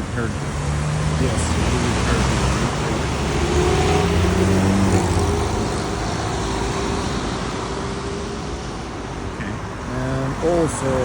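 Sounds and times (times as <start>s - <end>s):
cars passing with tyre hum: 0.0s - 11.0s.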